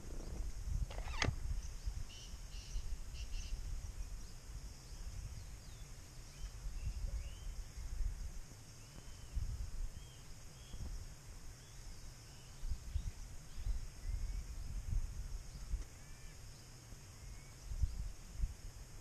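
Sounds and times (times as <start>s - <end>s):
high insect drone: 0.0s - 19.0s
wind rumble on microphone: 0.0s - 19.0s
faint bird chirps: 1.0s - 8.1s, 8.8s - 10.9s, 11.6s - 18.2s.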